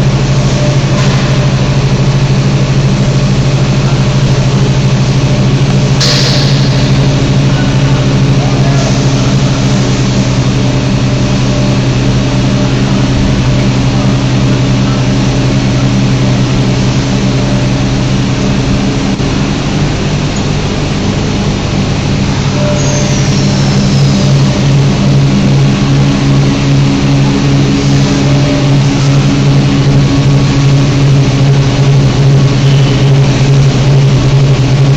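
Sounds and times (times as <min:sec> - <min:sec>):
furnace machine drone: 0:00.0 - 0:34.9.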